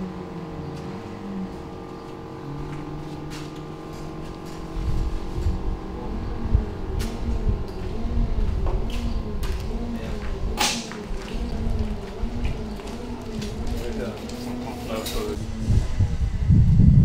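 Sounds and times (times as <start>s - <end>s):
low rumble: 0.0s - 17.0s
steady engine hum: 0.0s - 17.0s.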